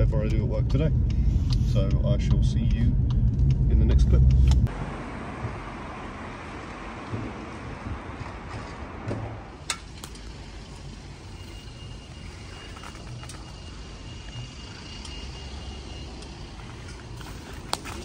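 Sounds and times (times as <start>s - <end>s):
vehicle low rumble: 0.0s - 18.0s.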